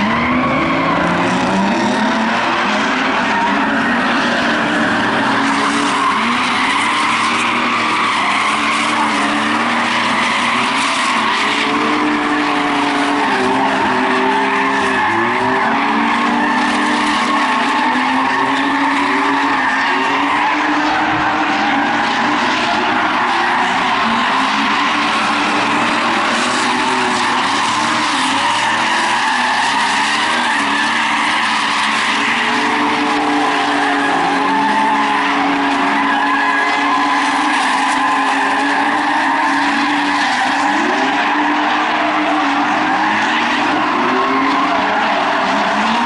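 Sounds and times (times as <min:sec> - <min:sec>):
drift car engines revving: 0:00.0 - 0:46.0
tyres skidding and squealing: 0:00.0 - 0:46.0.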